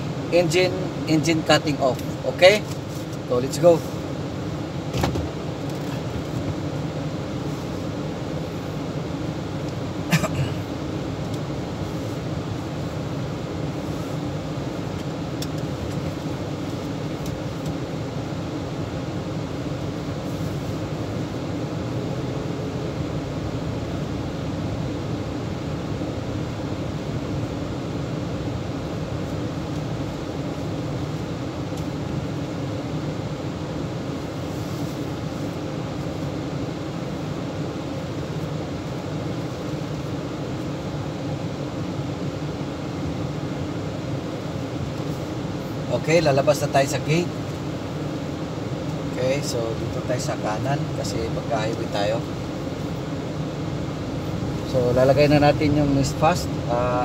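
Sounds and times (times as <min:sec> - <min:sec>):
car cabin engine hum: 0:00.0 - 0:57.0.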